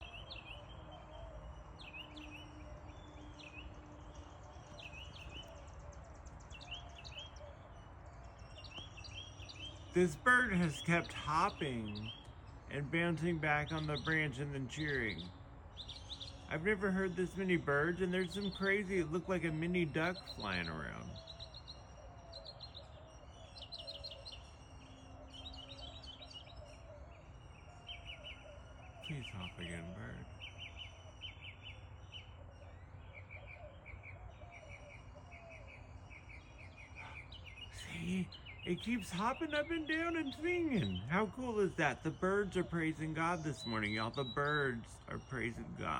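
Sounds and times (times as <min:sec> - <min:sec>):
bird chirping phrase: 0:00.0 - 0:45.9
rapid high bird trill: 0:00.0 - 0:45.9.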